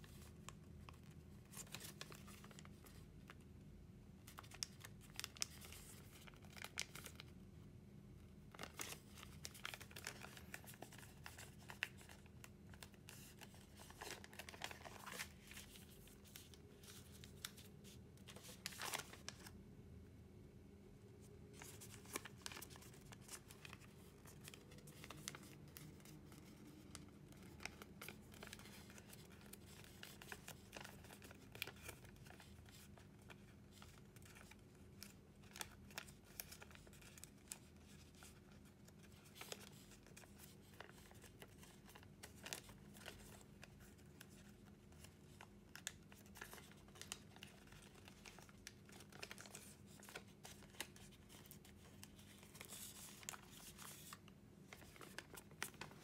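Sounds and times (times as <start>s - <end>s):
paper crinkling and crackling: 0.0s - 3.5s, 4.2s - 7.4s, 8.4s - 19.6s, 21.5s - 56.0s
faint low hum: 0.0s - 56.0s.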